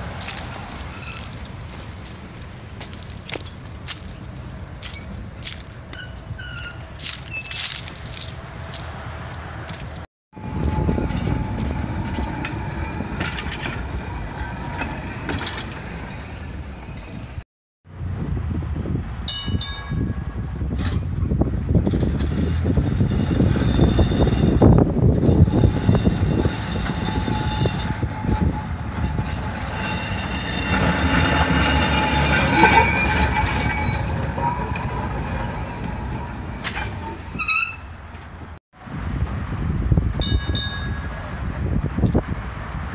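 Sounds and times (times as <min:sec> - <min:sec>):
wheels clicking on rail: 0:00.0 - 0:17.4, 0:20.7 - 0:38.6
tram car rumbling on rails: 0:00.0 - 0:42.9.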